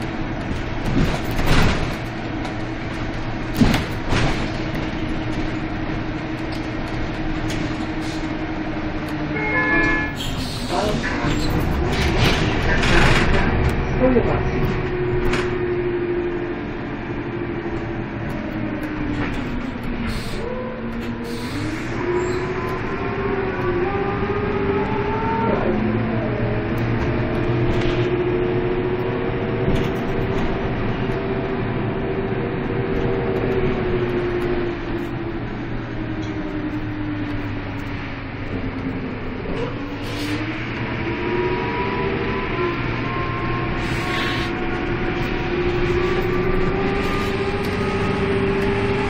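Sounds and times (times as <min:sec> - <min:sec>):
bus engine whine: 0:00.0 - 0:49.0.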